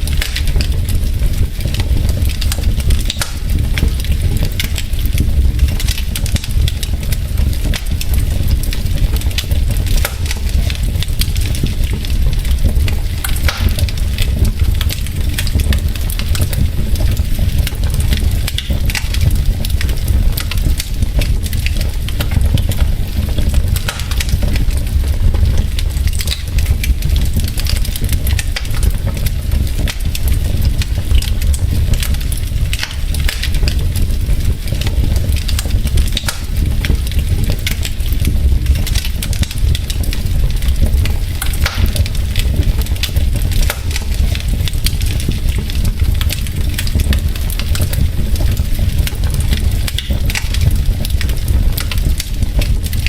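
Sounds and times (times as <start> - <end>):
logs crackling in fireplace: 0.0 - 53.0
low fire rumble: 0.0 - 53.0.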